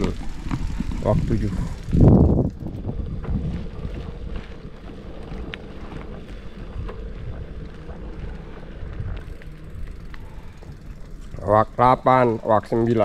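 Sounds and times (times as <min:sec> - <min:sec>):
wind rumble on microphone: 0:00.0 - 0:13.0
faint ticks: 0:01.7 - 0:12.6.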